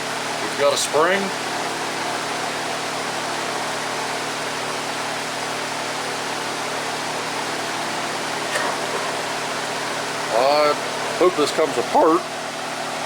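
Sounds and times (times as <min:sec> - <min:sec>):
electric fan whooshing: 0:00.0 - 0:13.0.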